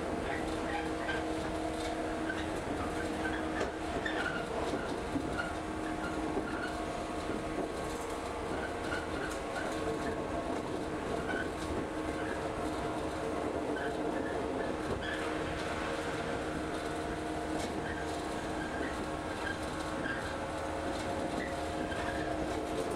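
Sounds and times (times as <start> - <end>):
train rumble inside carriage: 0.0 - 22.9.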